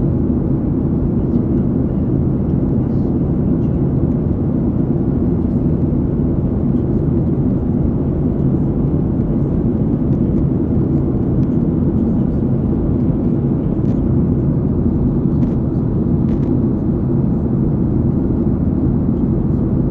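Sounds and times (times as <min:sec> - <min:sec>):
jet airliner cabin noise: 0:00.0 - 0:19.9.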